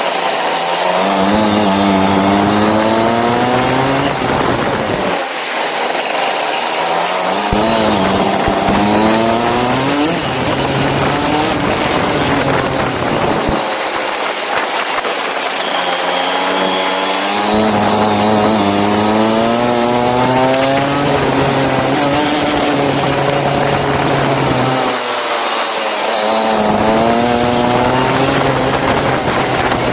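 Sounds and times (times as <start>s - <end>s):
go-kart engine accelerating: 0.0s - 29.9s.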